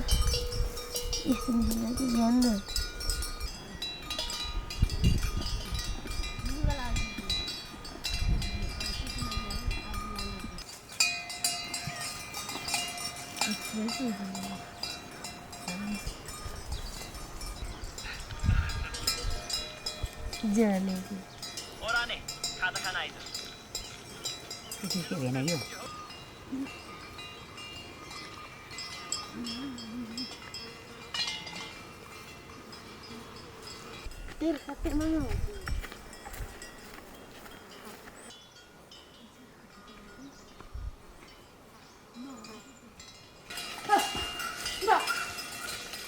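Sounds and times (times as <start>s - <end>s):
cowbells clanking: 0.0s - 40.4s, 42.1s - 46.0s
livestock bells clinking: 0.0s - 40.5s, 41.2s - 46.0s.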